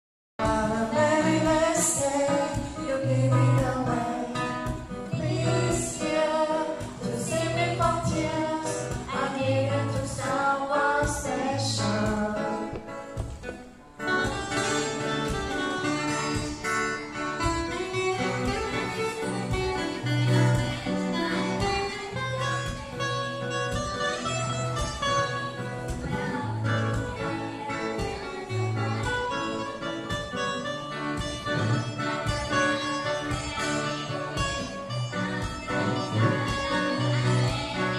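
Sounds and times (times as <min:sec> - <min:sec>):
group of people singing: 0:00.4 - 0:12.9, 0:17.9 - 0:37.9
guitar accompaniment: 0:00.4 - 0:37.9.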